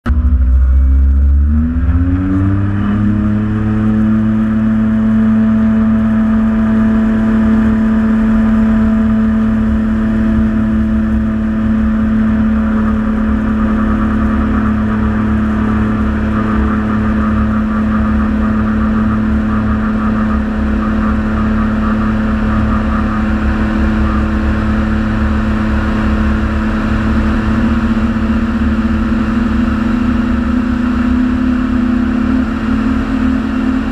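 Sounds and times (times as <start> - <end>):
aircraft engine and propeller: 0.0 - 33.9.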